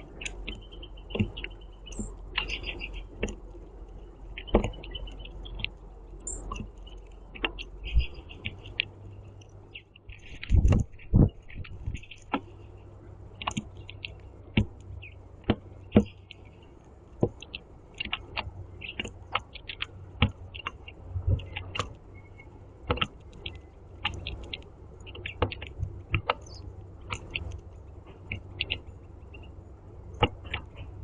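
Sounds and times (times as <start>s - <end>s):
bird pecking seeds on feeder: 0.0s - 29.5s.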